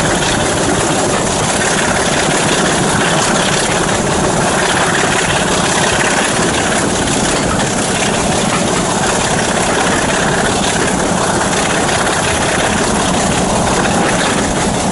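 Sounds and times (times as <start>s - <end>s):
diesel locomotive engine working: 0.0s - 14.9s
train rumbling on rails: 0.0s - 14.9s.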